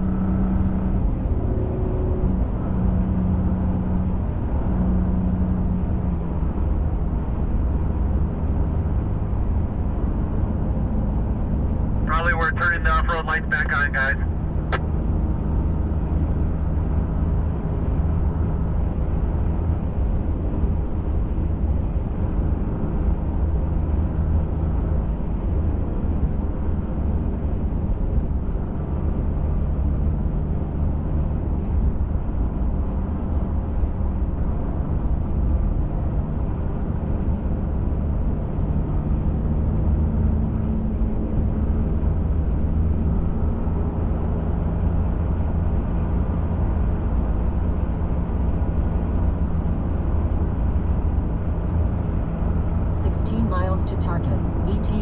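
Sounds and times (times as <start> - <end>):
truck engine hum: 0.0 - 29.9, 31.0 - 55.0
road noise: 0.0 - 55.0.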